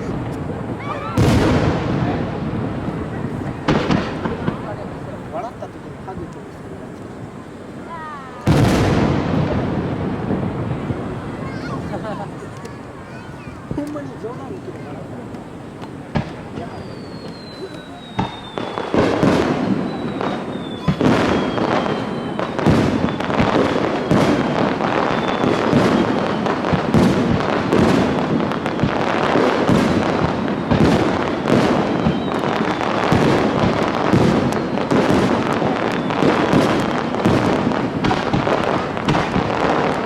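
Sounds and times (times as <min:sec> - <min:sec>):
fireworks barrage: 0:00.0 - 0:40.0.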